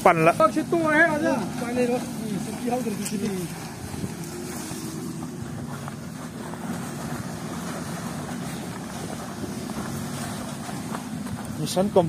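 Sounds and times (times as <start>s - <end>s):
heavy diesel truck engine: 0.0s - 12.0s.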